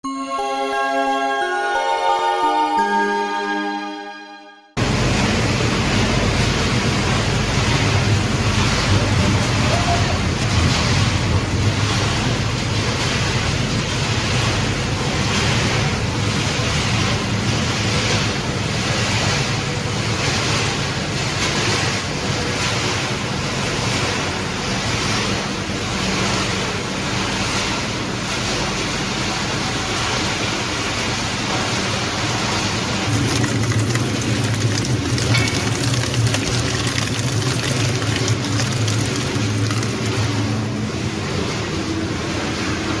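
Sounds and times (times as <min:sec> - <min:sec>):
machine hum: 0:04.8 - 0:43.0.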